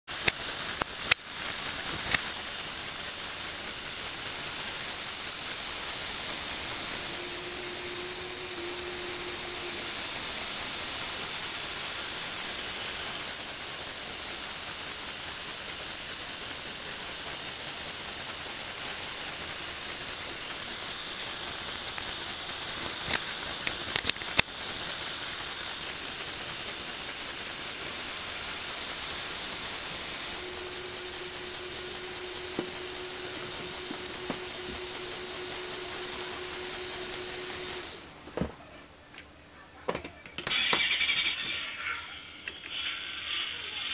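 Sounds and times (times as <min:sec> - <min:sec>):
toy motors whirring: 0:00.1 - 0:38.2, 0:40.2 - 0:43.9.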